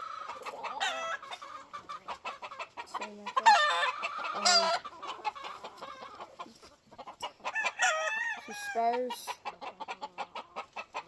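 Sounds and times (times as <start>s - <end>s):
chicken calls: 0.0s - 11.0s.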